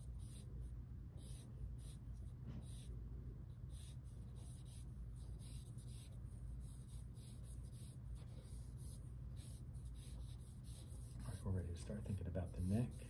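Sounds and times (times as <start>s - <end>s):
drawing tool scratching paper: 0.0s - 0.5s, 1.2s - 2.9s, 3.7s - 13.0s
steady low hum: 0.0s - 13.0s.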